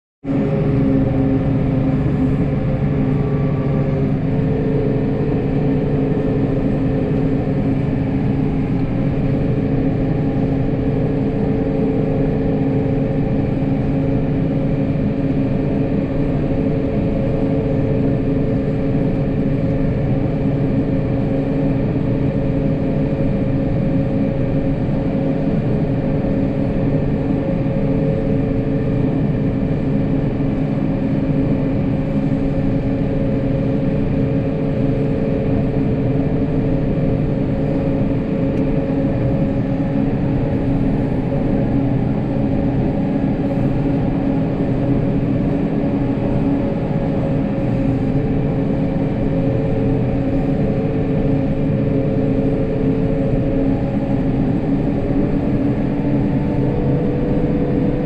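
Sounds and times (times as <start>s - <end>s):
vehicle engine running: 0.2s - 58.0s.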